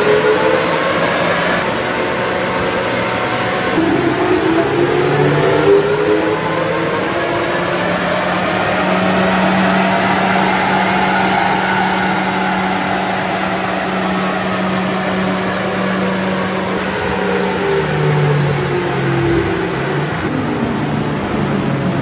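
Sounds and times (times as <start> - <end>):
dyno rollers and tyres whirring: 0.0 - 22.0.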